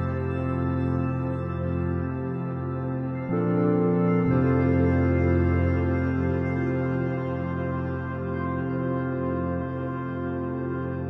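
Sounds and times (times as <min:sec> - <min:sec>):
soft ambient keyboard chords: 0:00.0 - 0:11.0.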